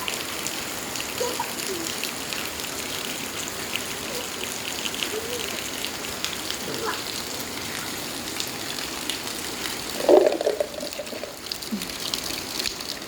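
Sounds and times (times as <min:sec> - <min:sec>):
light rain falling: 0:00.0 - 0:13.0
water drips: 0:00.0 - 0:13.0
water trickling and pouring: 0:00.0 - 0:13.0.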